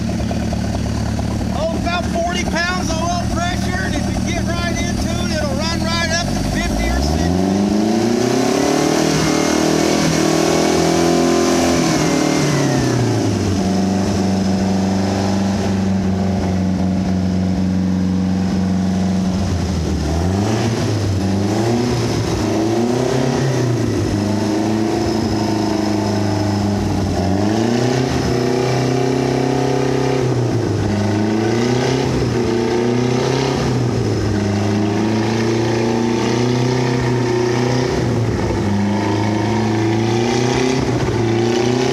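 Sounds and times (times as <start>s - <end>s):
boat engine revving and idling: 0.0s - 41.9s.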